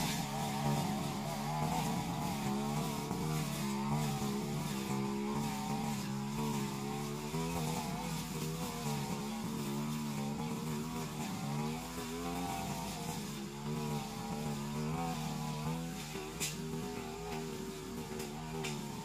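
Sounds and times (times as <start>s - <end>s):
brush cutter engine cutting grass: 0.0s - 19.0s.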